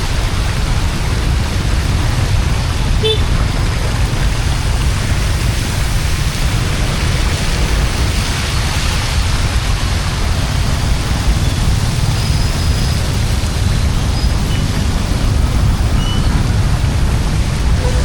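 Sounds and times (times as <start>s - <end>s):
heavy rain hissing: 0.0s - 18.0s
low rumble: 0.0s - 18.0s
running floodwater: 0.0s - 18.0s.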